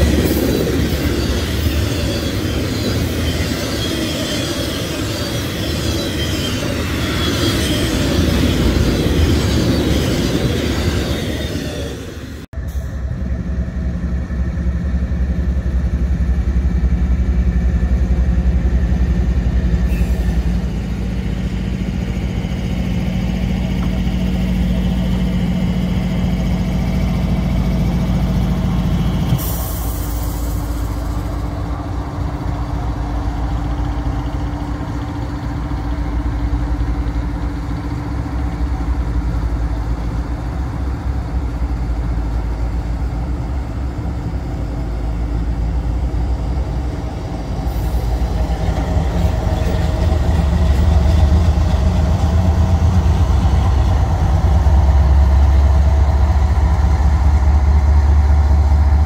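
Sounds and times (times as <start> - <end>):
diesel locomotives passing: 0.0 - 59.0.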